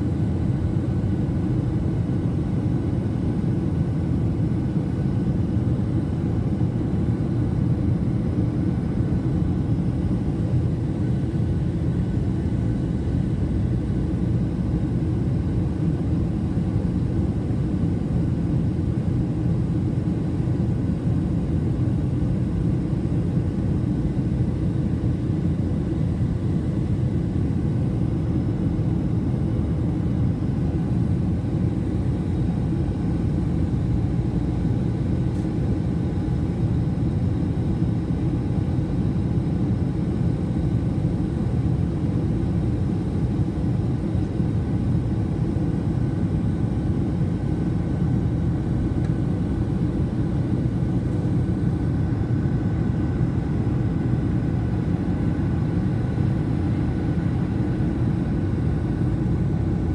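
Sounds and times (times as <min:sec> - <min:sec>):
jet engine and airflow rumble: 0:00.0 - 0:59.9.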